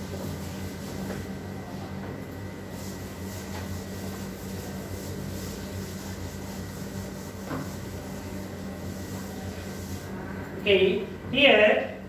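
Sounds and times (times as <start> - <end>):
duster wiping blackboard: 0.0 - 10.2.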